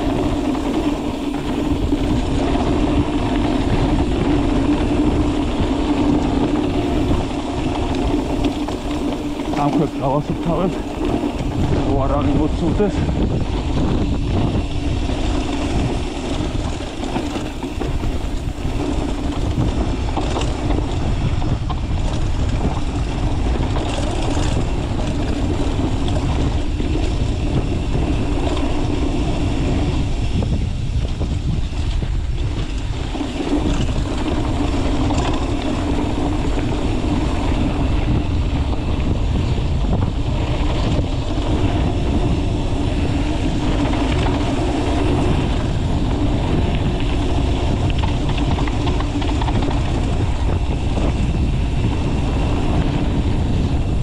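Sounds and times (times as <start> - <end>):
motor running steadily: 0.0 - 54.0
wind rumbling on microphone: 0.0 - 54.0.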